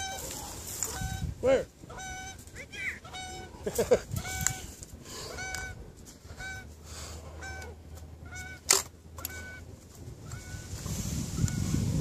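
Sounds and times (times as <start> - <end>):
goose honking: 0.0 - 3.6, 4.2 - 10.7.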